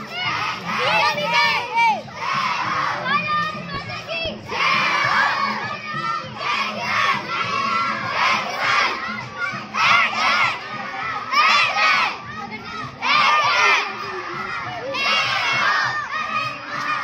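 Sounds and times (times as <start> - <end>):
children shouting in unison: 0.0 - 17.0
murmur of many voices: 0.0 - 17.0.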